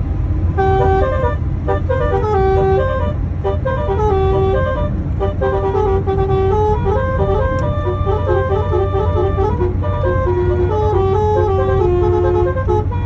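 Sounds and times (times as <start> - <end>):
low engine rumble: 0.0 - 13.0
bus musical horn tune: 0.5 - 13.0.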